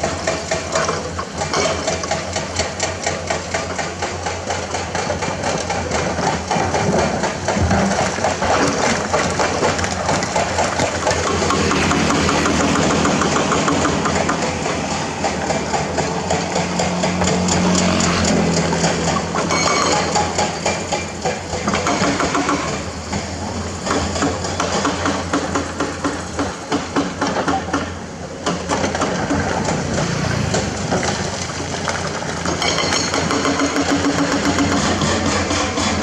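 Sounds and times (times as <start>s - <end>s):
excavator diesel engine: 0.0s - 36.0s
hydraulic breaker hammering rock: 0.0s - 36.0s.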